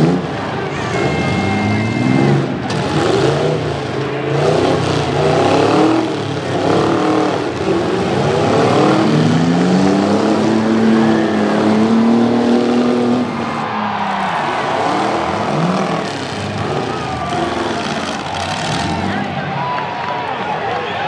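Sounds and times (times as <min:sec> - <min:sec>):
engine holding high pitch: 0:00.0 - 0:19.8
truck engines revving: 0:00.0 - 0:21.0.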